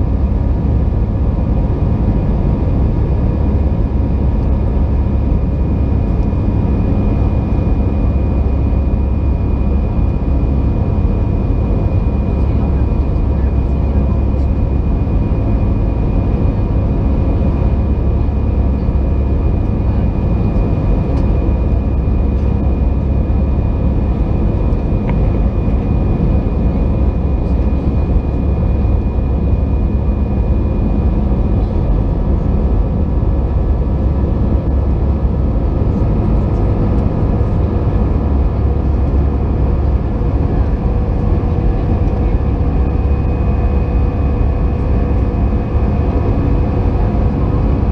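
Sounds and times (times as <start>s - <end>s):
jet engines rumbling in cabin: 0.0s - 47.9s.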